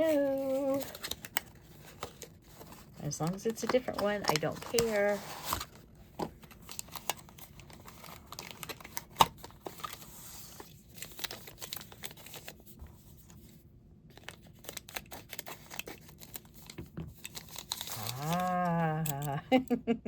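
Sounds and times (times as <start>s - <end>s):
packaging crinkling and tearing: 0.0s - 13.1s, 14.1s - 19.4s.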